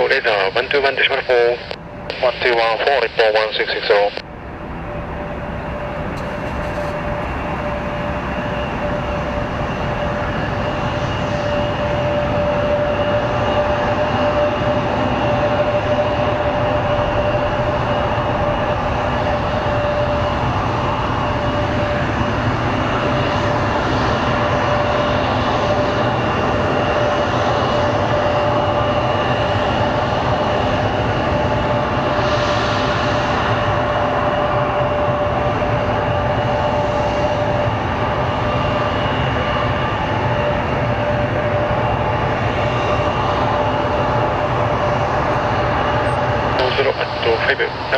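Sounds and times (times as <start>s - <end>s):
jet engines rumbling and whining: 0.0s - 47.9s.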